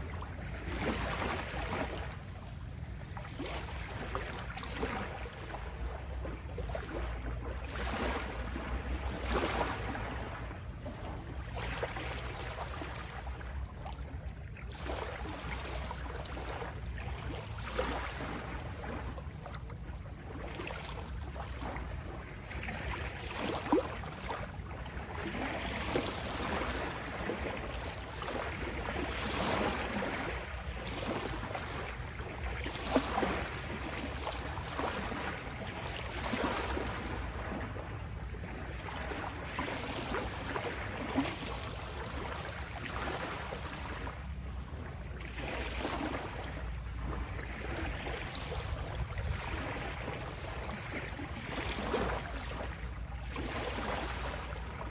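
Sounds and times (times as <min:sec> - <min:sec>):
small waves lapping at shore: 0:00.0 - 0:54.9.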